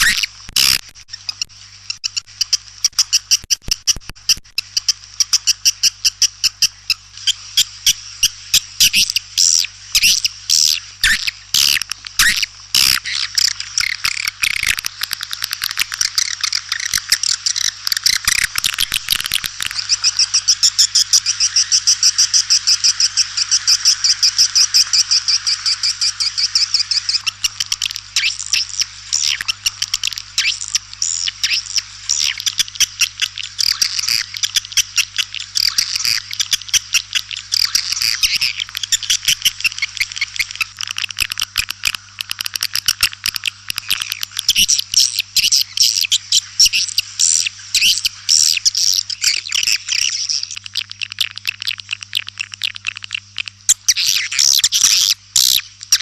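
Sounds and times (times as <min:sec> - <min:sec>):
swiftlet calls chirping: 0:04.3 - 0:56.0.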